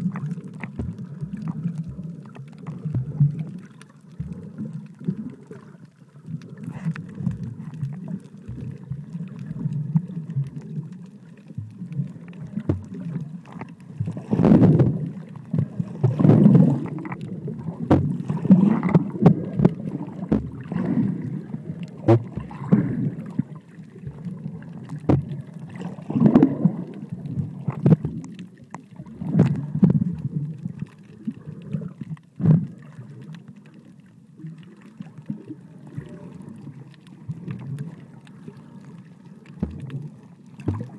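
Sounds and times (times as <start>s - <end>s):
underwater rush of water: 0.0s - 40.9s.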